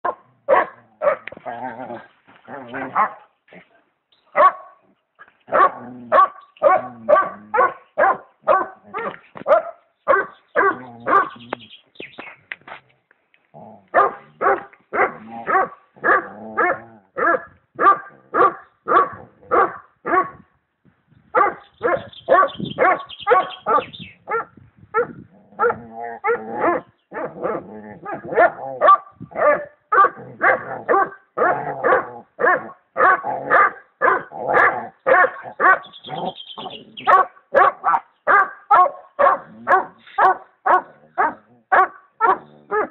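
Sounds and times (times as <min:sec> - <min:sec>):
dog barking: 0:00.0 - 0:01.3, 0:02.7 - 0:03.3, 0:04.4 - 0:04.8, 0:05.5 - 0:11.4, 0:13.9 - 0:20.4, 0:21.4 - 0:35.9, 0:37.0 - 0:42.9.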